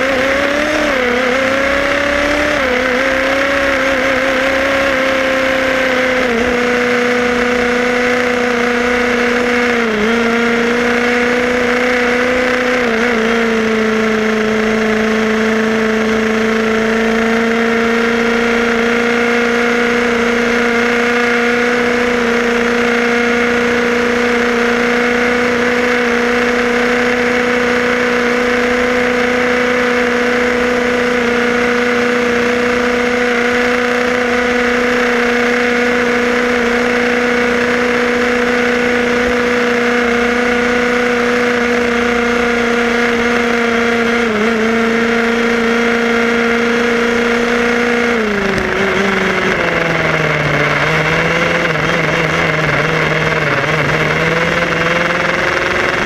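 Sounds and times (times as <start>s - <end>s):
rc car engine running: 0.0s - 56.0s.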